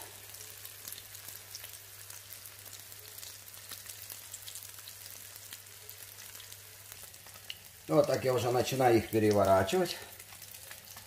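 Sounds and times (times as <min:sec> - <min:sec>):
patties sizzling in oil: 0:00.0 - 0:11.0
small crackles: 0:00.3 - 0:07.8, 0:09.3 - 0:11.0.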